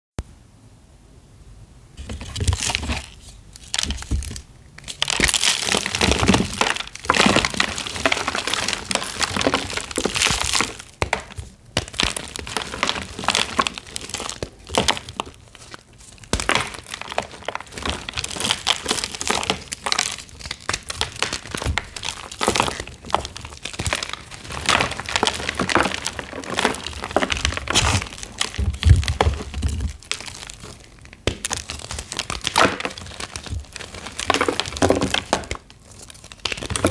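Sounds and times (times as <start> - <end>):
chalk blocks being crushed: 2.0 - 36.9.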